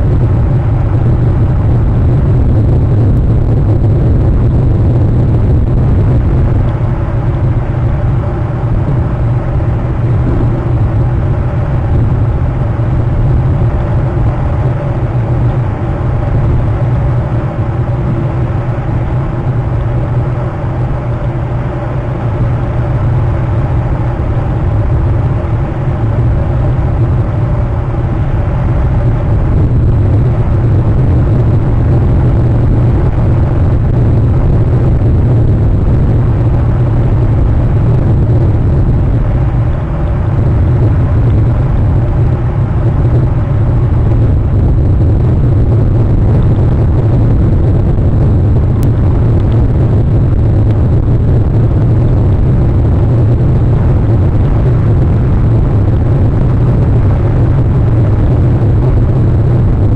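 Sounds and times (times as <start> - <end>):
faint hum: 0.0 - 59.9
wind buffeting microphone: 0.0 - 59.9.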